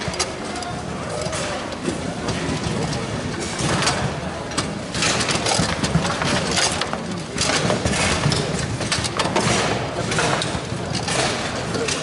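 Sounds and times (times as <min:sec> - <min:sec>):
murmur of busy hall: 0:00.0 - 0:12.0.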